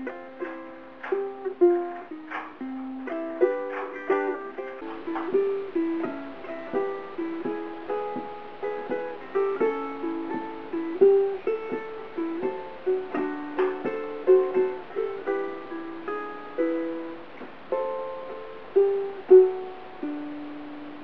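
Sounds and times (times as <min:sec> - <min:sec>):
ukulele picked in blues style: 0:00.0 - 0:21.0.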